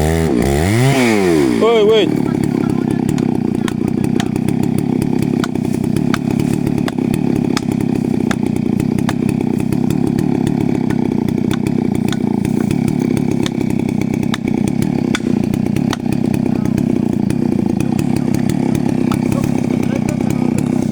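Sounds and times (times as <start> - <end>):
chainsaw cutting into tree: 0.0 - 20.9.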